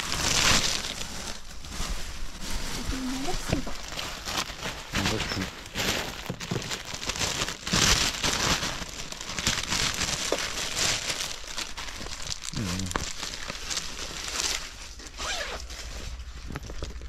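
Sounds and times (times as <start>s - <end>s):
handbags crinkling and rustling: 0.0s - 17.0s.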